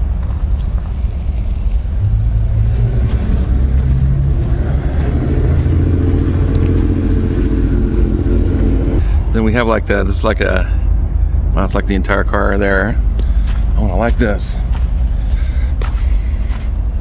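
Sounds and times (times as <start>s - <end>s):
pitched engine drone: 0.0s - 17.0s
vehicle engine humming: 0.0s - 17.0s.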